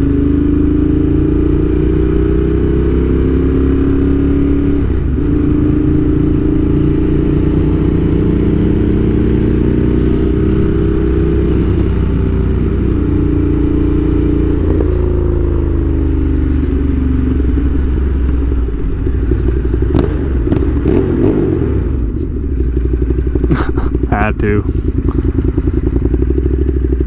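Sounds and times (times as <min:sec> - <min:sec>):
motorcycle engine: 0:00.0 - 0:27.0.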